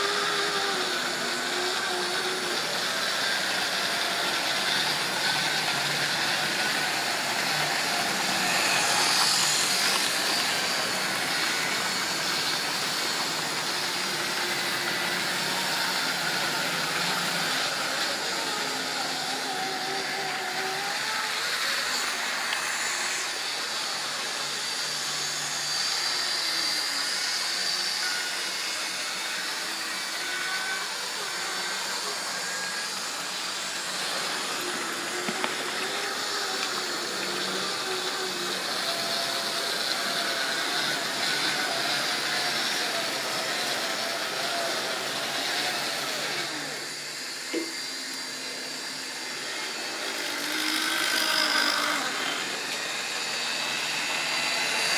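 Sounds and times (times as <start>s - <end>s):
electric motor whine: 0.0s - 54.9s.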